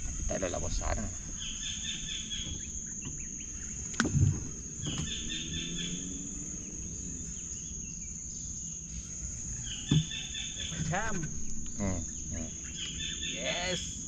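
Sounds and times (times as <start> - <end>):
bird chirping: 0.0 - 14.0
high-pitched insect drone: 0.0 - 14.0.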